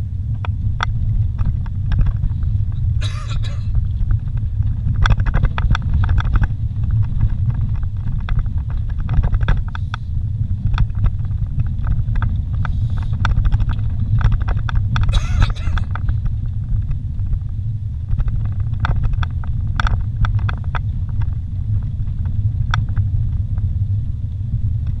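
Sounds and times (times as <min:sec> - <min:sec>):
engine and tyres rumbling: 0:00.0 - 0:25.0
vehicle knocks and rattles: 0:00.4 - 0:09.9, 0:10.6 - 0:23.7.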